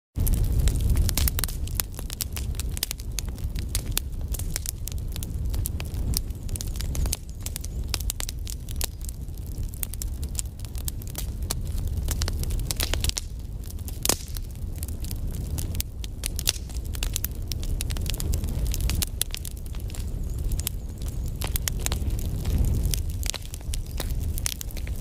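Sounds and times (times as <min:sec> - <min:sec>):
fire crackling: 0:00.2 - 0:25.0.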